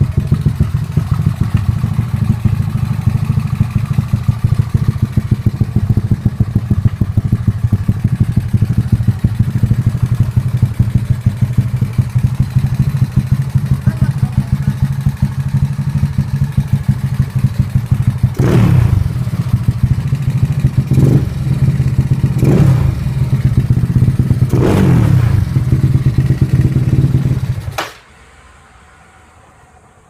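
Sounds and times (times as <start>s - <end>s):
engine idling and revving: 0.0s - 27.9s.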